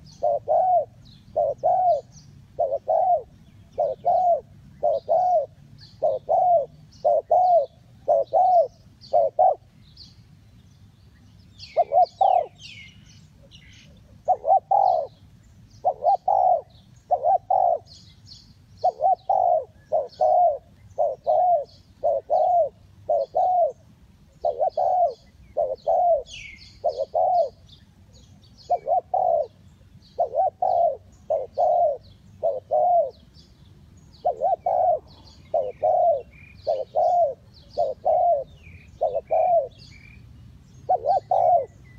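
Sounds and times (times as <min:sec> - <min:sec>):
dove cooing: 0:00.0 - 0:09.8, 0:11.6 - 0:15.2, 0:15.8 - 0:18.0, 0:18.8 - 0:27.7, 0:28.6 - 0:33.3, 0:34.2 - 0:40.2, 0:40.8 - 0:41.9
small birds chirping: 0:00.0 - 0:41.9.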